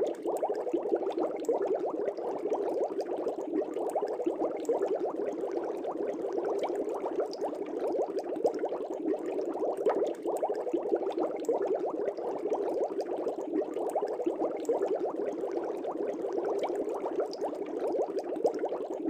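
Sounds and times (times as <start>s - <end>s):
air bubbles gurgling in fish tank: 0.0s - 19.0s.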